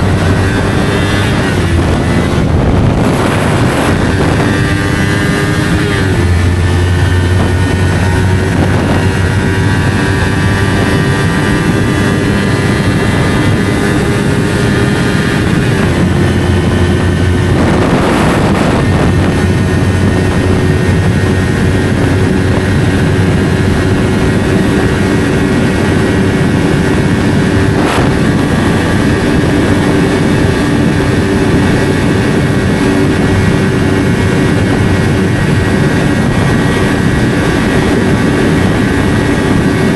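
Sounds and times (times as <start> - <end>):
motorcycle engine riding: 0.0 - 39.9
rush of noise: 0.0 - 39.9
wind noise: 0.0 - 39.9.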